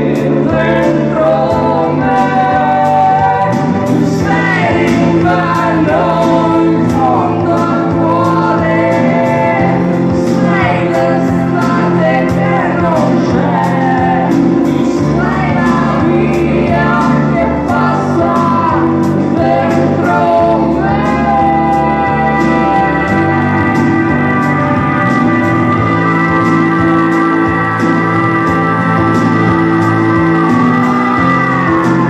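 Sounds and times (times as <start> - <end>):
acoustic guitar: 0.0 - 32.0
man singing: 0.0 - 32.0.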